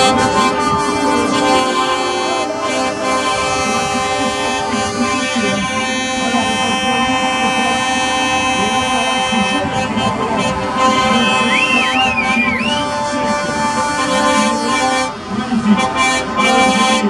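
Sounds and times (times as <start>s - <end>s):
voice over music: 0.0s - 15.1s
music with sustained notes: 0.0s - 16.6s.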